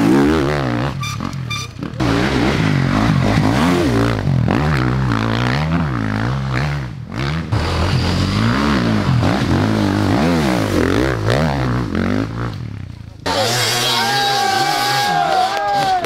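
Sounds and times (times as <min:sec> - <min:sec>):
dirt bike engine revving: 0:00.0 - 0:15.3.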